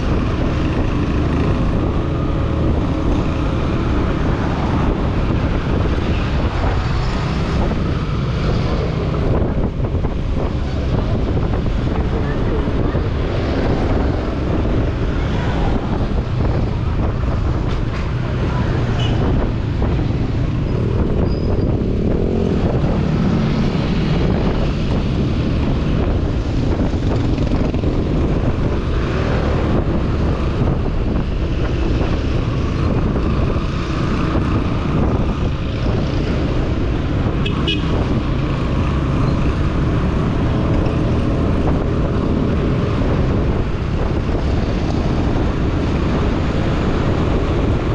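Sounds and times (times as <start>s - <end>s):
surrounding traffic: 0.0s - 47.9s
wind on microphone: 0.0s - 47.9s.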